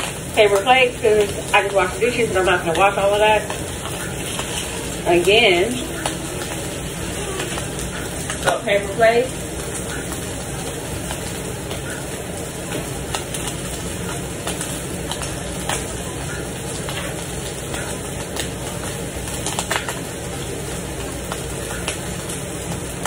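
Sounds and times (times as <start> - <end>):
hot fat popping and crackling: 0.0 - 23.0
meat sizzling in a pan: 0.0 - 23.0.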